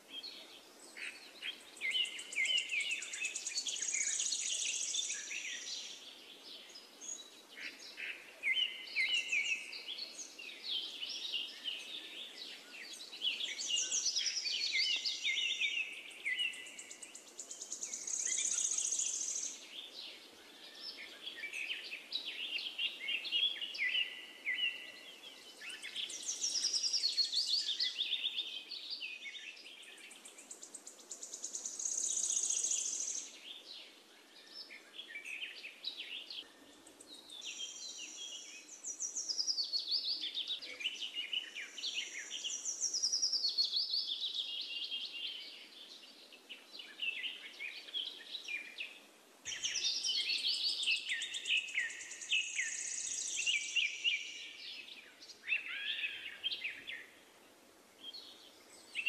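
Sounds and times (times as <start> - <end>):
birds chirping and trilling: 0.1 - 57.4.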